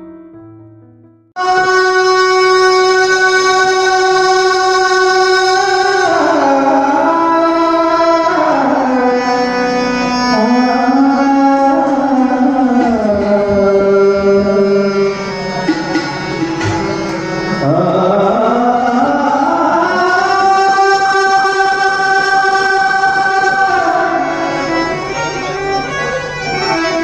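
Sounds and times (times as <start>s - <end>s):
harmonium playing: 1.4s - 27.0s
man singing long notes: 1.4s - 27.0s.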